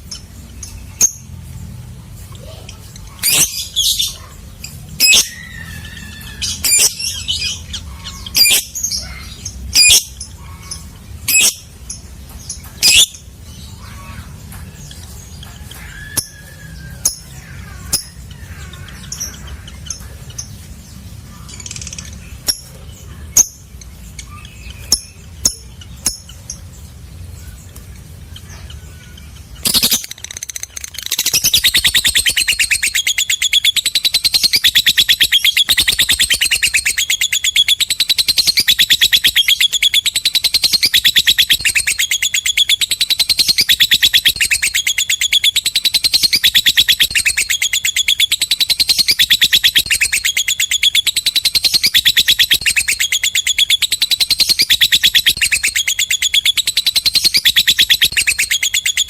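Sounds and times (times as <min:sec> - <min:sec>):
lovebird chirping and trilling: 0:00.0 - 0:59.0.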